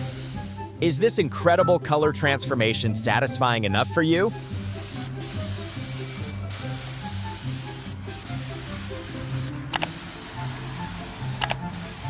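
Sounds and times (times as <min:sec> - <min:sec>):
paint spray gun hissing: 0:00.0 - 0:01.1, 0:02.1 - 0:12.0
background music: 0:00.0 - 0:12.0.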